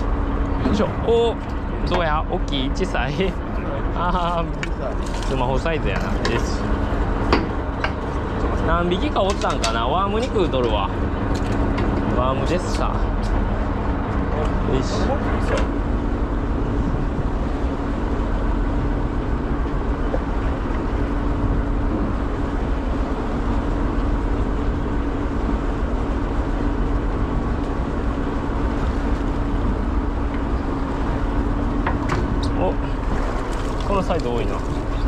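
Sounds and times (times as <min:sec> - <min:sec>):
boat engine droning: 0:00.0 - 0:35.0
wind and water noise: 0:00.0 - 0:35.0.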